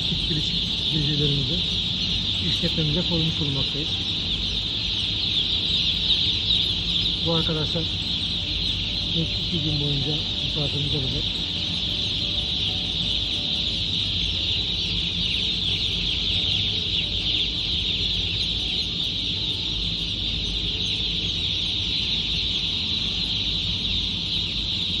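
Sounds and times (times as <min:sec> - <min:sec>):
chicks peeping: 0:00.0 - 0:25.0
low steady hum: 0:00.0 - 0:25.0.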